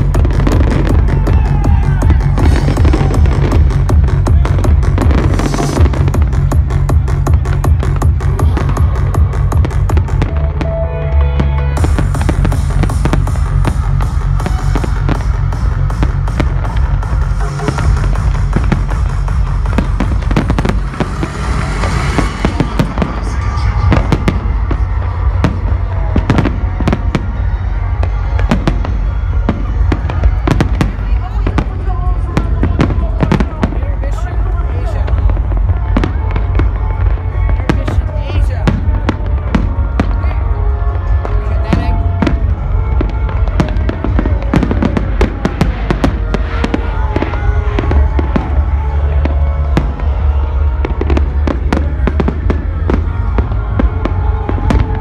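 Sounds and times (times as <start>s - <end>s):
fireworks bangs: 0.0s - 10.8s, 11.5s - 55.0s
loud music with heavy bass: 0.0s - 55.0s.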